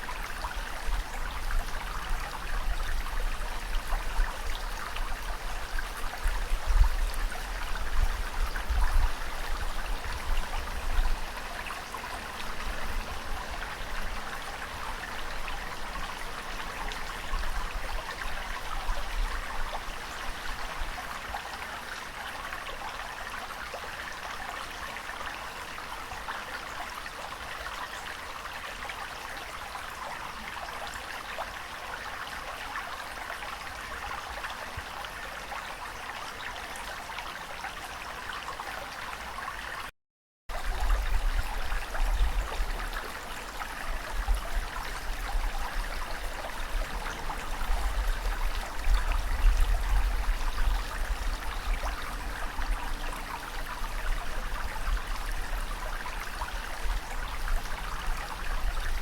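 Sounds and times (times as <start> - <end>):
rushing water: 0.0 - 39.9, 40.5 - 59.0.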